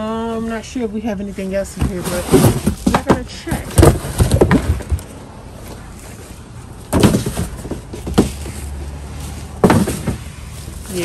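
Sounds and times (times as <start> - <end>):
items rustling and clunking in bin: 1.4 - 11.0.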